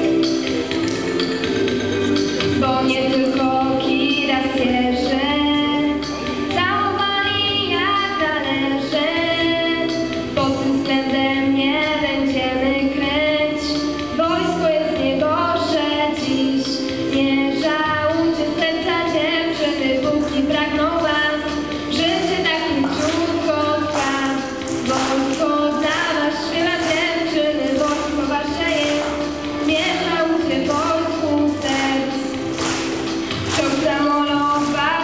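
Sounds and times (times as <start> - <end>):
musical accompaniment: 0.0 - 35.0
girl singing into microphone: 2.6 - 35.0.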